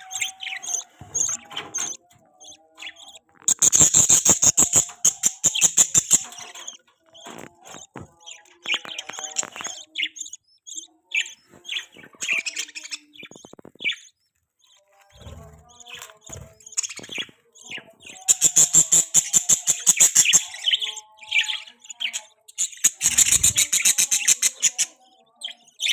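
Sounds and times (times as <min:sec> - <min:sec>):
budgerigars chirping and chattering: 0:00.0 - 0:25.9.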